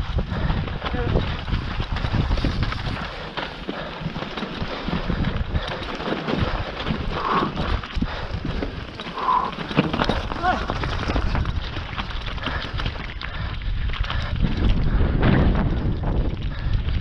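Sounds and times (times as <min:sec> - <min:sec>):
bike rattling and knocking: 0:00.0 - 0:17.0
tyres crunching over stones: 0:00.1 - 0:16.7.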